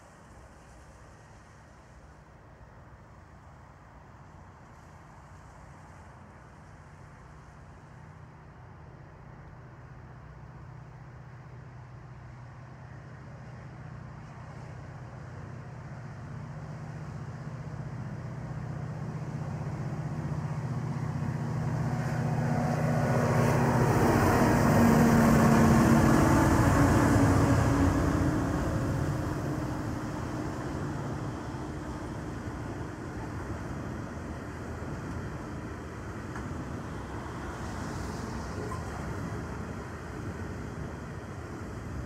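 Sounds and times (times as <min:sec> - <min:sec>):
diesel train engine drone: 0:00.0 - 0:42.0.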